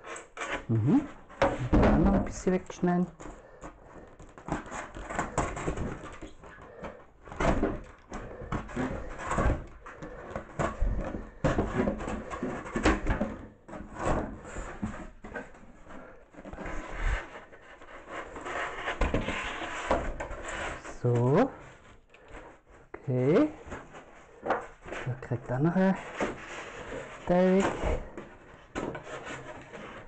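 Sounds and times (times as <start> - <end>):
knocks and rubbing of foam board: 0.0 - 30.0.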